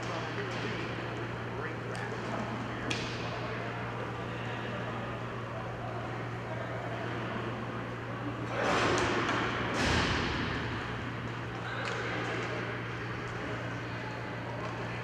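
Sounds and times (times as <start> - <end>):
electrical hum: 0.0 - 15.0
hockey game noise: 0.0 - 15.0.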